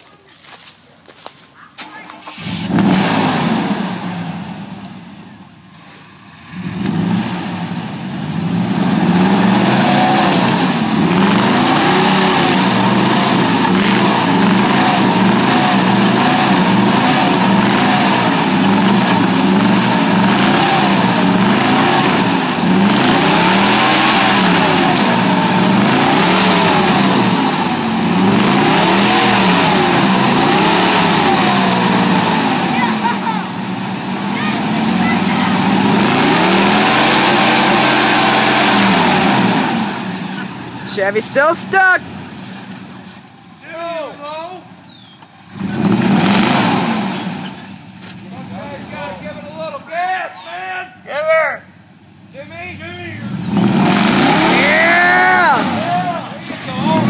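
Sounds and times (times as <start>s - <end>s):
truck engine revving hard: 1.8s - 43.3s, 44.8s - 50.0s, 52.3s - 57.0s.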